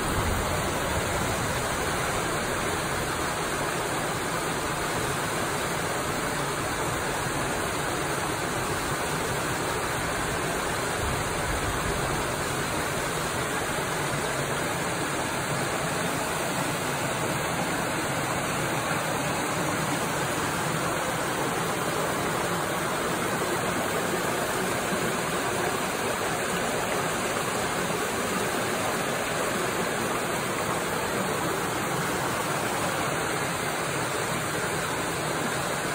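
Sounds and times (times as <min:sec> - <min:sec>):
water rushing over waterfall: 0:00.0 - 0:35.9.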